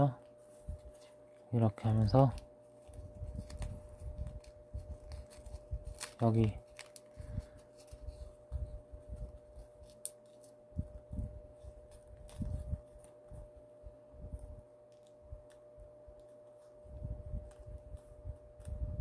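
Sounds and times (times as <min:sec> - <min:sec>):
faint steady hum: 0:00.0 - 0:19.0
paper folding rustles: 0:00.2 - 0:13.6, 0:14.8 - 0:18.9.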